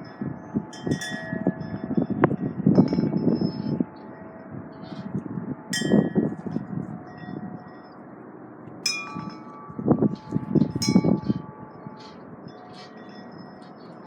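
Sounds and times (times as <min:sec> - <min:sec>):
wind buffeting microphone: 0:00.0 - 0:07.9, 0:09.1 - 0:14.0
wind chimes clanging: 0:00.0 - 0:08.0, 0:08.8 - 0:14.0.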